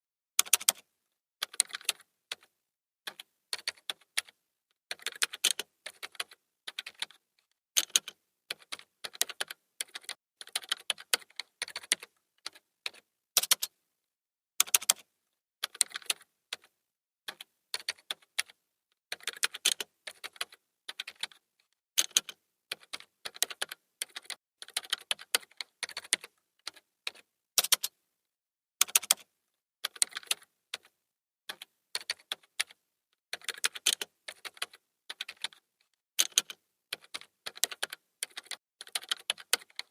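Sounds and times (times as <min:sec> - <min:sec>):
typing on computer keyboard: 0:00.4 - 0:02.5, 0:03.1 - 0:07.2, 0:07.8 - 0:13.7, 0:14.6 - 0:21.4, 0:22.0 - 0:28.0, 0:28.8 - 0:39.9.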